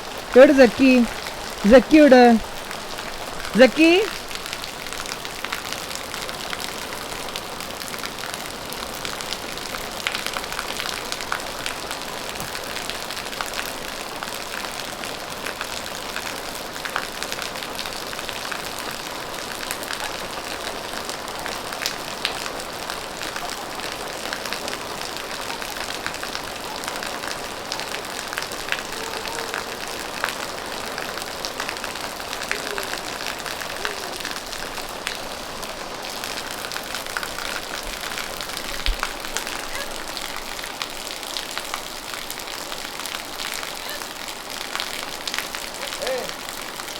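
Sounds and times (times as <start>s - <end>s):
steady rain falling: 0.0s - 46.9s
raindrops ticking on a surface: 2.4s - 46.9s.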